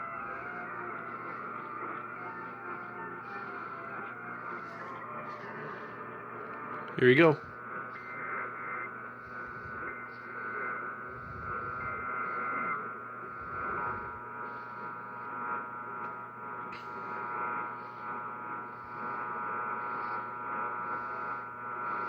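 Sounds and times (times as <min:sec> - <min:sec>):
radio hiss and hum: 0:00.0 - 0:22.0.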